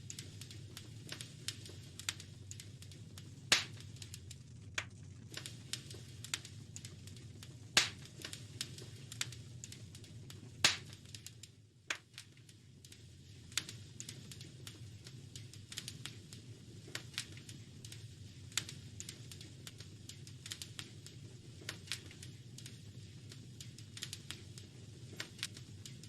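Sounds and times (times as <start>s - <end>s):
loud fire pops: 0.0s - 26.0s
low fire rumble: 0.0s - 26.0s
wood fire crackling: 0.0s - 26.0s.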